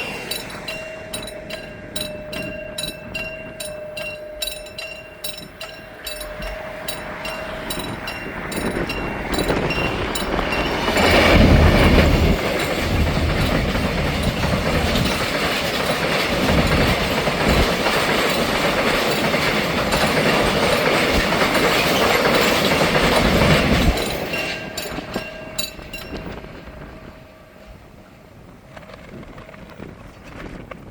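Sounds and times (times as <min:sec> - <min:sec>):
train wheels clattering over rail joints: 0:00.0 - 0:26.9
crossing alarm dinging: 0:00.0 - 0:27.5.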